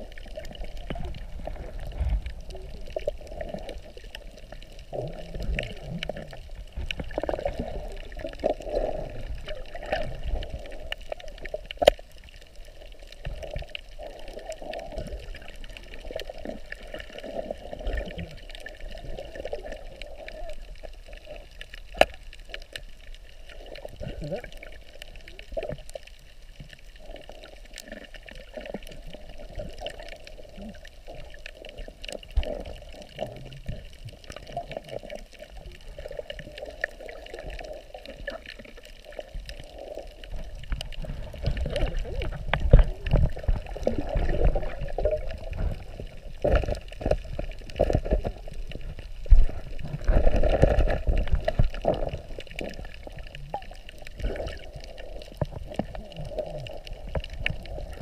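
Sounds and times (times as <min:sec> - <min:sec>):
underwater sloshing and bubbling: 0:00.0 - 0:58.0.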